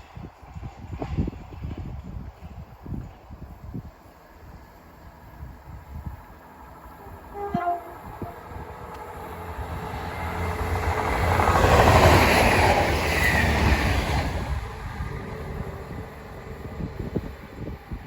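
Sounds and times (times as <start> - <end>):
train passing close by: 0.0 - 18.0.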